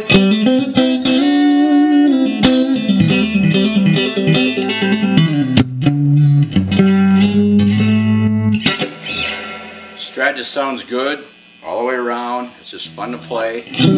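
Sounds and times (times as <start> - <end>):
electric guitar playing: 0.0 - 10.4, 12.8 - 13.9.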